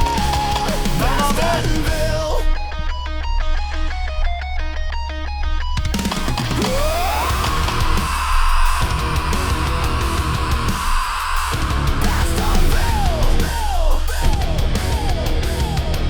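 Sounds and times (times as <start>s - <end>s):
bass: 0.0s - 3.8s, 5.7s - 16.0s
drums: 0.0s - 16.0s
lead electric guitar: 0.0s - 16.0s.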